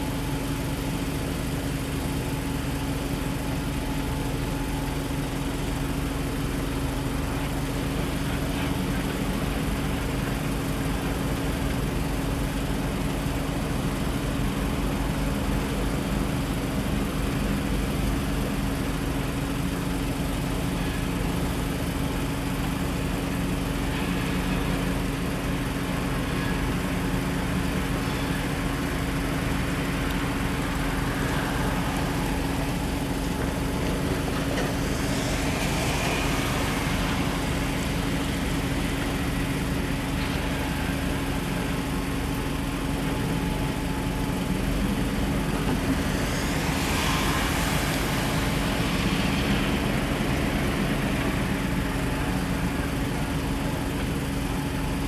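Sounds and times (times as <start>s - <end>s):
diesel locomotive humming: 0.0s - 55.0s.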